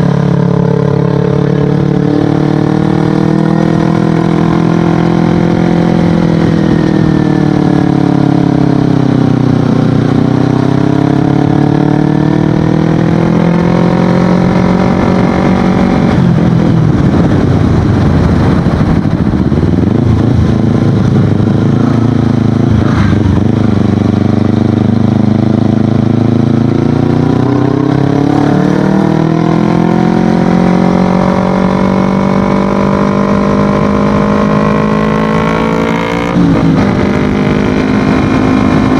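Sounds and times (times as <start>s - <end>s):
motorcycle engine: 0.0s - 38.9s
wind noise on microphone: 0.0s - 38.9s.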